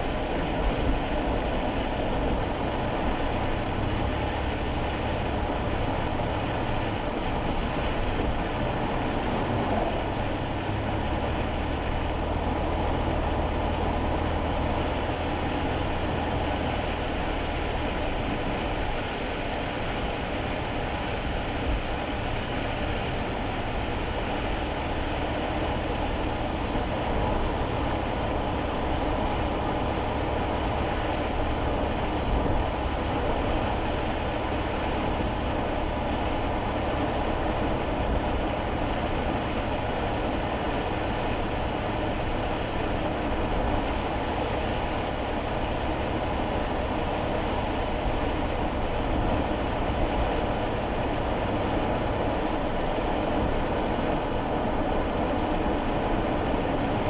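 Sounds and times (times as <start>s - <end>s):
car engine drone: 0.0s - 57.0s
road and tyre noise: 0.0s - 57.0s.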